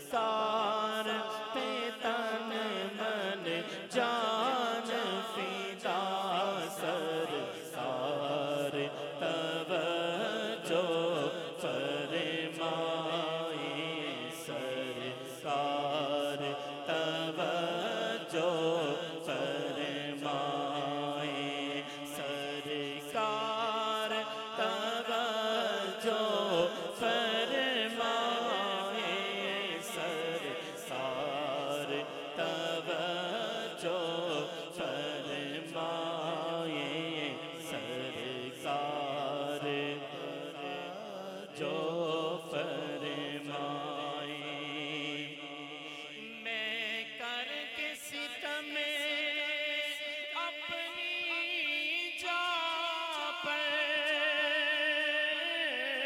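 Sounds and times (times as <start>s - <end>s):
man singing into a microphone: 0.0s - 56.0s.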